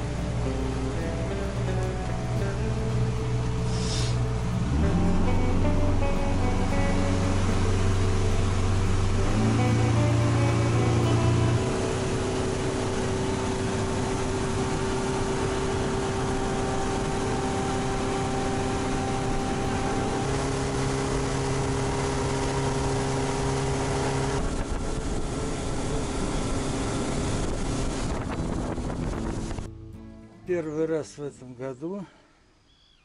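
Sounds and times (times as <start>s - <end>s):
water rushing: 0.0s - 29.7s
motorboat engine running: 0.0s - 29.9s
wind: 0.0s - 33.0s.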